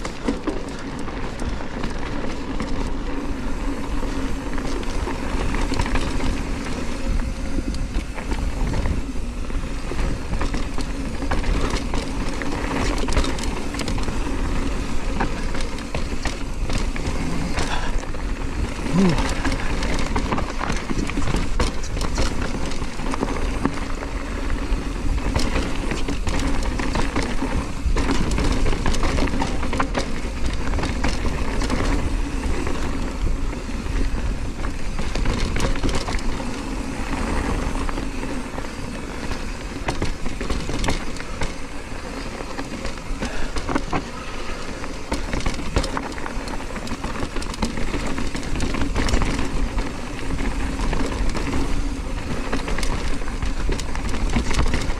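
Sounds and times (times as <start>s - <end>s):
bike knocks and rattles: 0.0s - 54.9s
bike tyres rolling on dirt: 0.0s - 54.9s.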